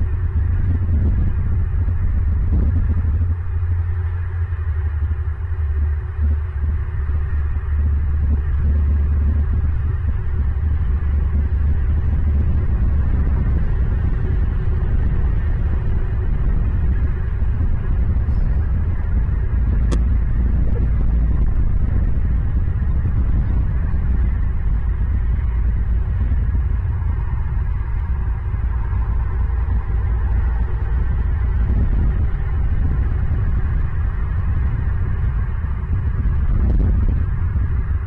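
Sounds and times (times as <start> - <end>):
low rumble: 0.0 - 38.0.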